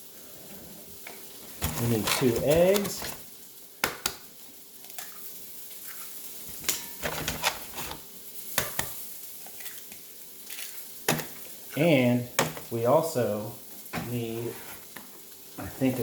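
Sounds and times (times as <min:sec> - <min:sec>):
sausages sizzling: 0:00.0 - 0:16.0.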